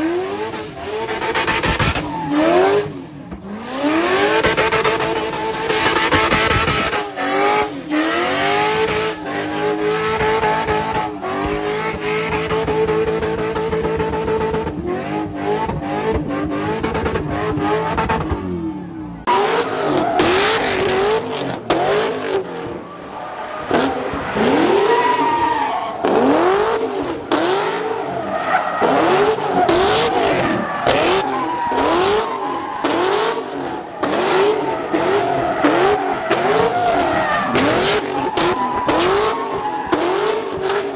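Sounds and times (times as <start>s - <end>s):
tyres squealing and skidding: 0.0s - 18.6s, 19.2s - 40.9s
car engine revving: 0.0s - 40.9s.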